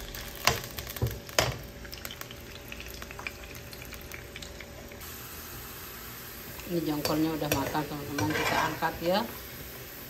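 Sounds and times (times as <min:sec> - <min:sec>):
beans sizzling in oil: 0:00.0 - 0:10.0.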